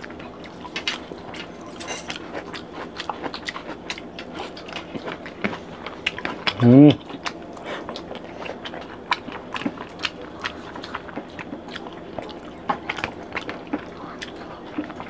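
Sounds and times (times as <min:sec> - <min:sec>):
chewing and mouth smacks: 0:02.1 - 0:15.0.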